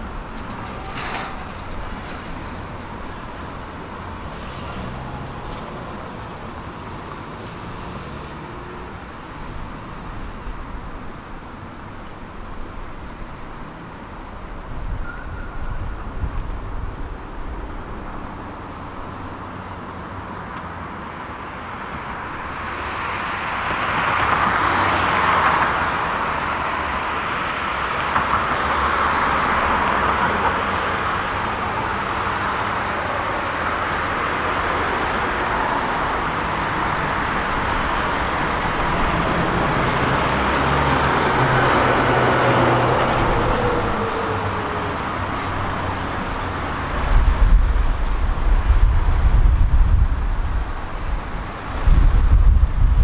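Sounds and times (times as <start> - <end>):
cars passing by: 0.0 - 53.0
heavy vehicle engine hum: 0.0 - 53.0.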